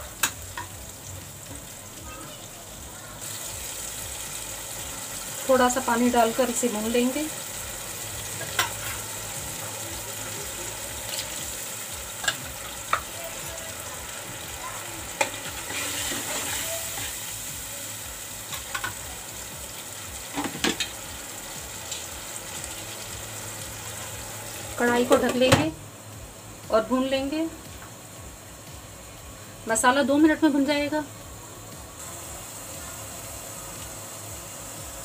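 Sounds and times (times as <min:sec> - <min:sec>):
masala sizzling in a pan: 0:00.0 - 0:35.0.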